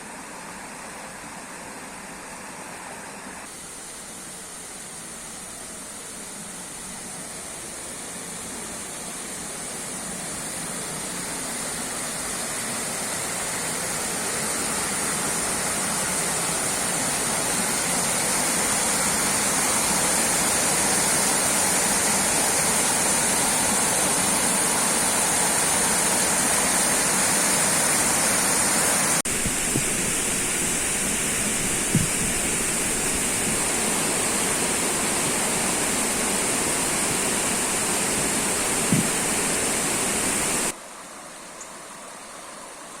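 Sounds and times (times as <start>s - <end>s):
river water over small waterfall: 3.4s - 43.0s.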